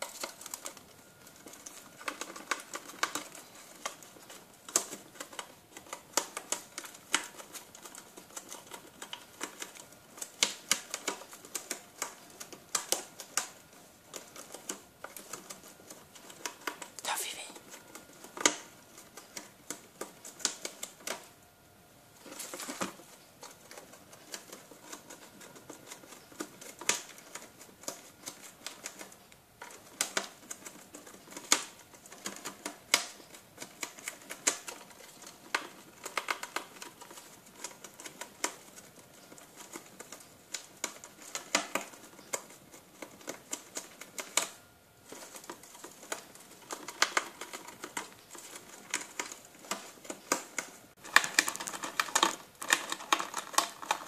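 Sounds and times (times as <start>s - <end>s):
gerbil gnawing cardboard: 0.0s - 54.0s.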